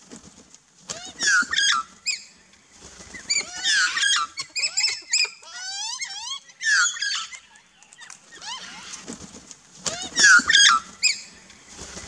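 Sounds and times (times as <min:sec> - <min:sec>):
birds squawking and chirping: 0:00.9 - 0:09.1, 0:09.8 - 0:12.0.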